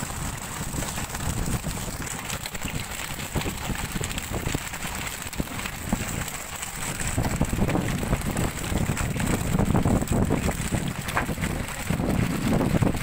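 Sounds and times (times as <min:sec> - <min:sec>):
fishing boat engine rumble: 0:00.0 - 0:13.0
rushing sea water: 0:00.0 - 0:13.0
wind buffeting microphone: 0:00.0 - 0:13.0
short knocks and splashes: 0:00.7 - 0:13.0.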